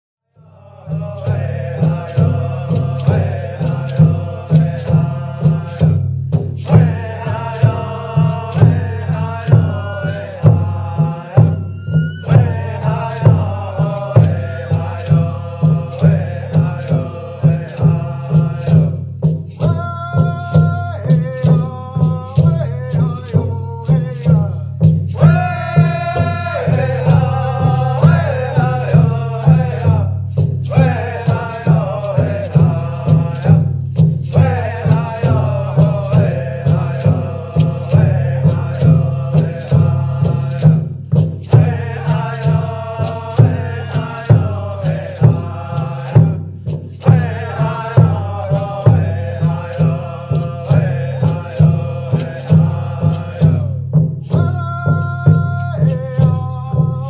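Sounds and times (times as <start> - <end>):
chanted singing: 0.4 - 57.0
percussion beat with rattle: 0.4 - 57.0.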